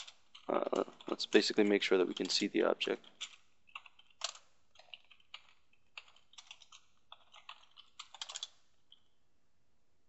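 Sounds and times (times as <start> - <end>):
keyboard typing: 0.0 - 9.1.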